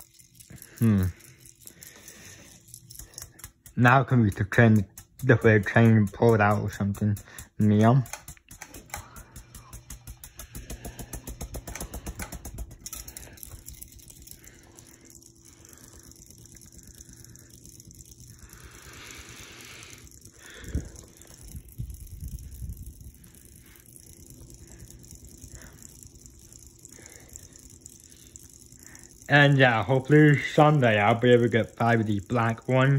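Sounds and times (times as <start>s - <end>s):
ceiling fan whirring: 0.0s - 32.9s
fan blades fluttering: 0.0s - 32.9s.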